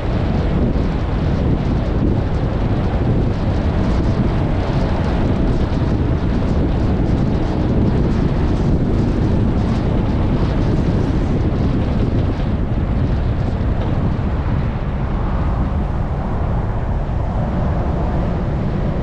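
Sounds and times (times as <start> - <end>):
off-road vehicle engine rumble: 0.0 - 19.0
wind buffeting microphone: 0.0 - 19.0.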